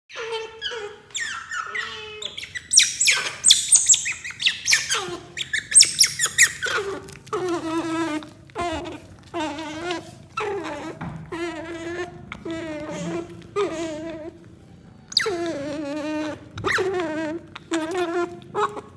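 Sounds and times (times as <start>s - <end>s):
otter pups squeaking: 0.1s - 18.9s.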